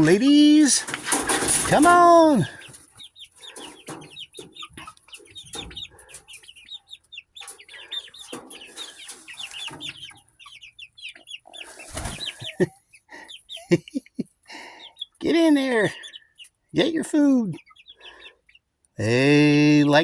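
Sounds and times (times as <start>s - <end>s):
young chickens clucking and chirping: 0.0s - 20.0s.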